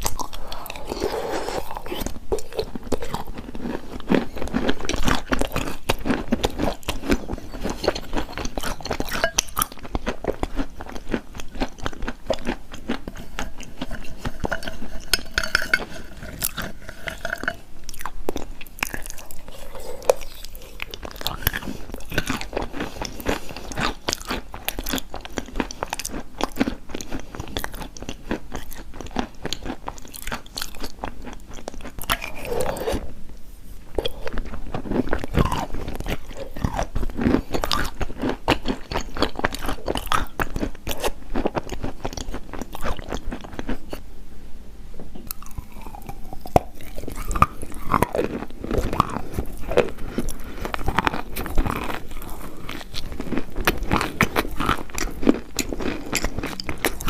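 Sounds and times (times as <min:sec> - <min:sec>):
chalk being chewed: 0:00.0 - 0:33.1, 0:33.9 - 0:44.0, 0:45.3 - 0:57.0.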